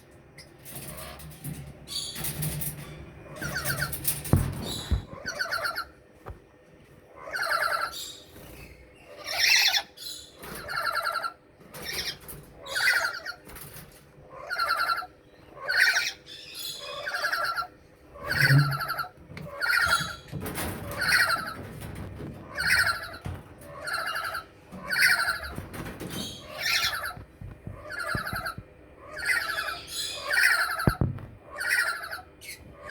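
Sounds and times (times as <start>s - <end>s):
parrots screeching: 0.4s - 6.0s, 7.1s - 32.9s.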